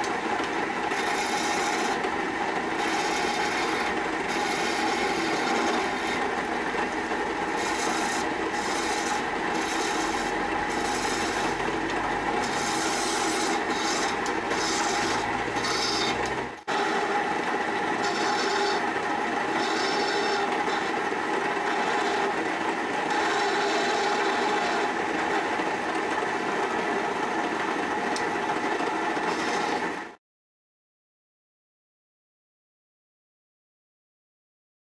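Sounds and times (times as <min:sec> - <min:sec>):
lathe motor hum: 0:00.0 - 0:30.2
tool rasping on spinning wood: 0:00.7 - 0:28.0, 0:28.7 - 0:30.0.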